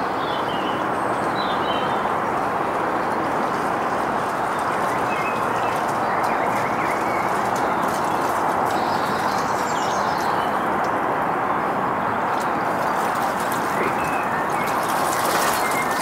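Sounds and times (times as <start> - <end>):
rushing water noise: 0.0 - 16.0.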